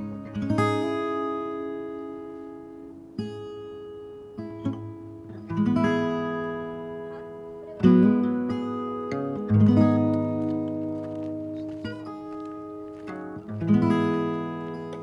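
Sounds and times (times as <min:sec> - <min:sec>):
acoustic guitar chords strummed: 0:00.0 - 0:15.0
plucked guitar notes: 0:00.0 - 0:15.0.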